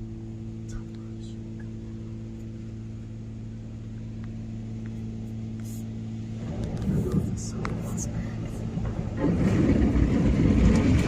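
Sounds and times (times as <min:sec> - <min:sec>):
car wash machinery humming: 0:00.0 - 0:11.0
low rumble: 0:00.0 - 0:11.0.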